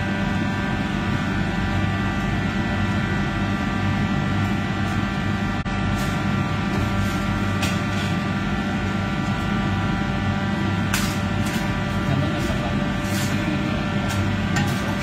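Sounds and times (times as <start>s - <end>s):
ventilation fans droning: 0.0s - 15.0s.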